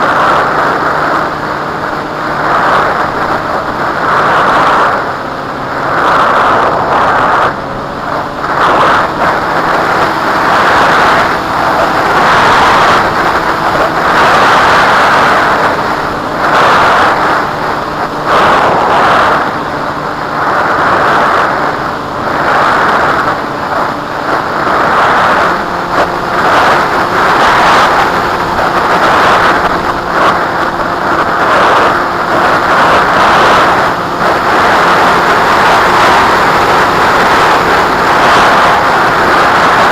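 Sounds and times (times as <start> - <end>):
small motor and propeller drone: 0.0 - 39.9
wind buffeting microphone: 0.0 - 39.9.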